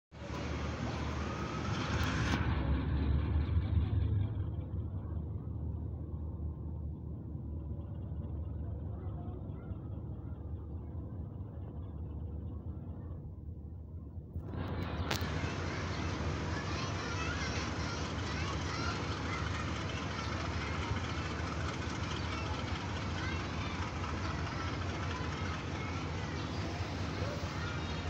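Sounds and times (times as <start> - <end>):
diesel train rumbling: 0.1 - 28.0.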